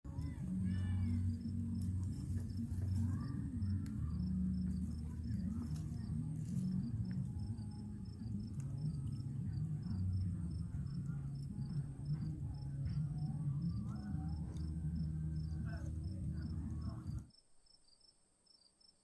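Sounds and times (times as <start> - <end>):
cricket chirping: 0.1 - 19.0.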